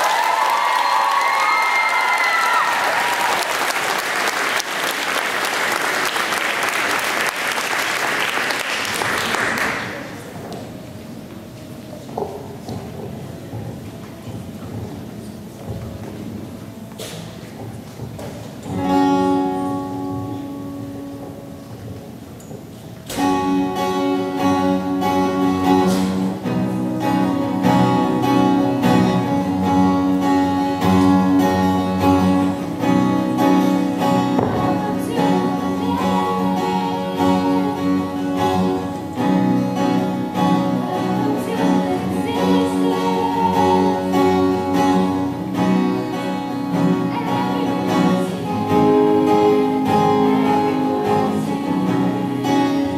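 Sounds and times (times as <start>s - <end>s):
acoustic guitar: 3.6s - 52.9s.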